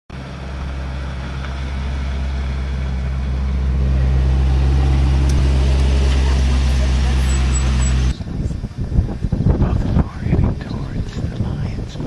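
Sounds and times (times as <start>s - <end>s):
vehicle engine idling: 0.1s - 12.0s.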